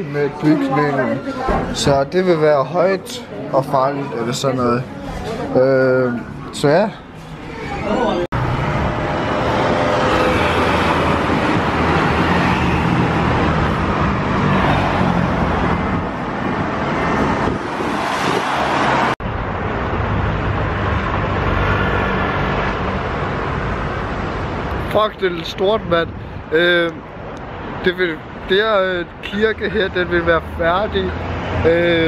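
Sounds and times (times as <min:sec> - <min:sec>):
cars driving past: 0:00.0 - 0:25.3, 0:25.9 - 0:32.0.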